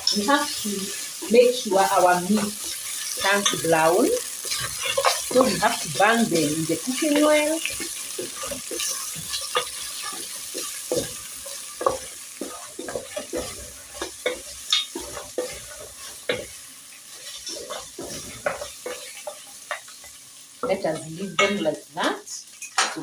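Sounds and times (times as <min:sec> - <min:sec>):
utensil knocking and scraping pot: 0:00.0 - 0:21.7
meat sizzling in hot oil: 0:00.0 - 0:23.0.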